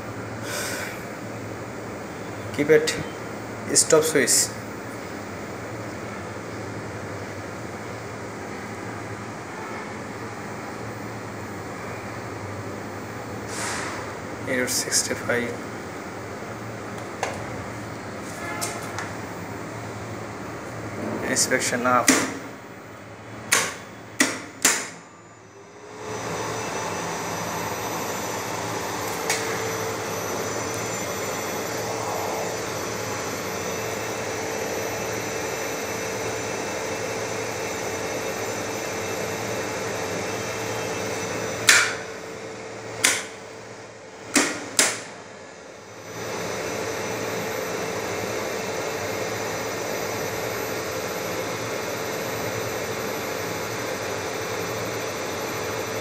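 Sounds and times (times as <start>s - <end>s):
lift machinery whirring hum: 0.0s - 56.0s.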